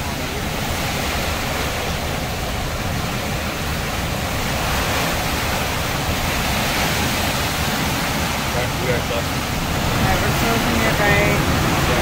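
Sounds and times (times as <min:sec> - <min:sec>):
hurricane wind and heavy rain: 0:00.0 - 0:12.0
wind buffeting microphone: 0:00.0 - 0:12.0.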